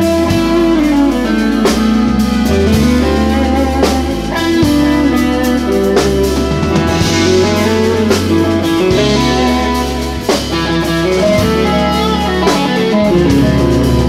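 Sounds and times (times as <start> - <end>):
drum or cymbal accents: 0.0 - 14.0
electric guitar: 0.0 - 14.0
jazz fusion band playing: 0.0 - 14.0.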